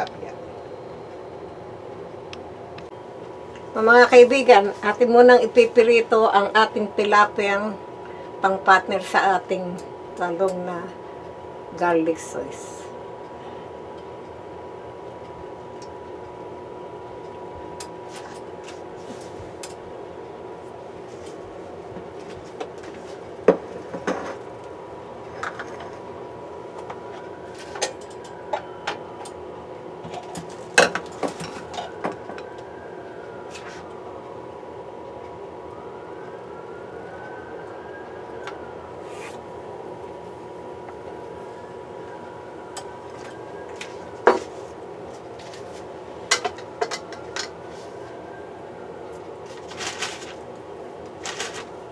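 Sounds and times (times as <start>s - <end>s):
appliance humming: 0.0s - 51.9s.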